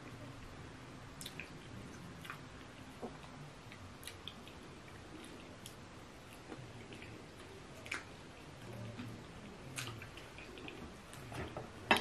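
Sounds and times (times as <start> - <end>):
soft wet chewing: 0.0 - 11.8.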